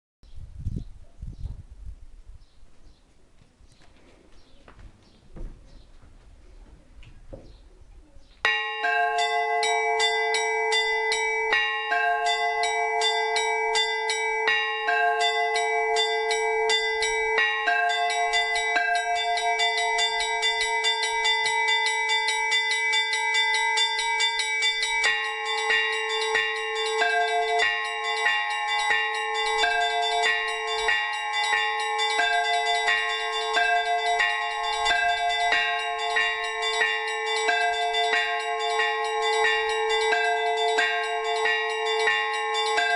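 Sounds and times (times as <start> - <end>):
large bell ringing: 8.5 - 42.9
small bells ringing rhythmically: 8.5 - 42.9.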